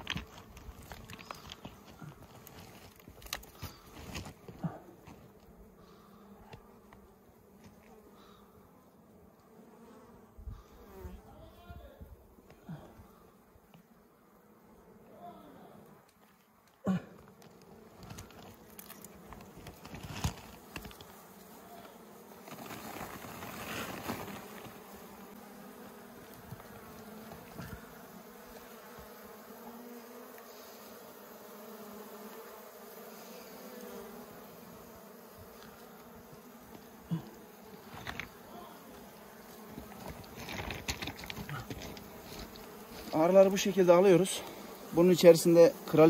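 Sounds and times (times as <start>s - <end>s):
honeybees buzzing: 0.0s - 46.0s.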